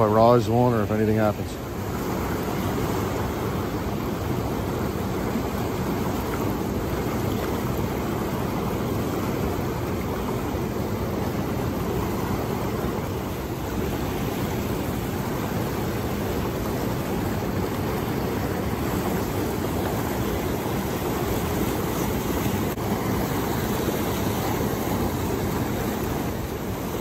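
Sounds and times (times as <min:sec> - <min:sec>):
river rapids rushing: 0:00.0 - 0:27.0.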